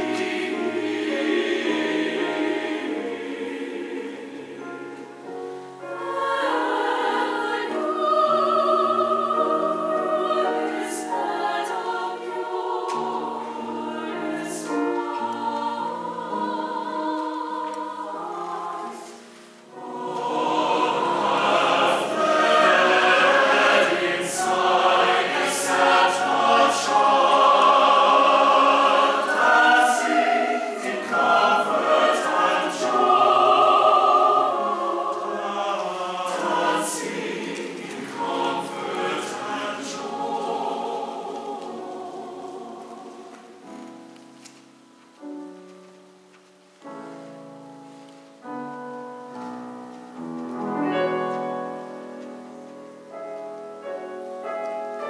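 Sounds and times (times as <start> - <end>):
mixed choir singing: 0.0 - 44.1.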